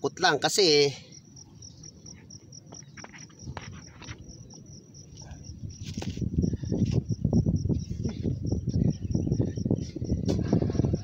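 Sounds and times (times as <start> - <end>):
insect chirping trill: 0.0 - 11.0.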